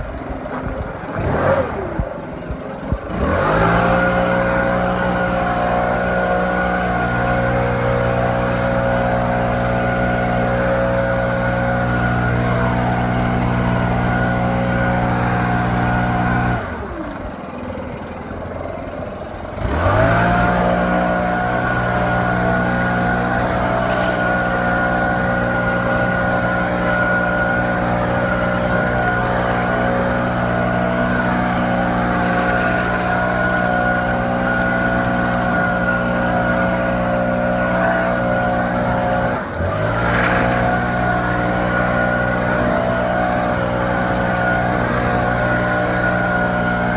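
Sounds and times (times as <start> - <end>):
leaf blower whining: 0.0 - 46.9.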